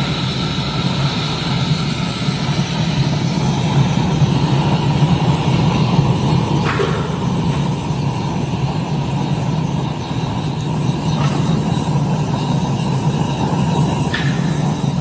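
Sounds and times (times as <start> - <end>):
melting furnace roaring: 0.0 - 15.0.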